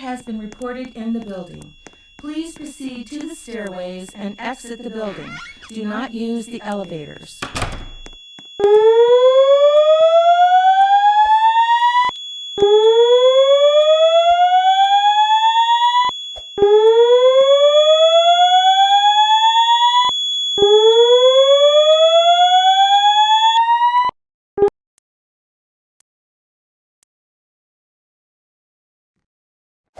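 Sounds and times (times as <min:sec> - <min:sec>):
steady high alarm tone: 0:00.0 - 0:24.1
fire alarm whoop tone: 0:00.0 - 0:24.2.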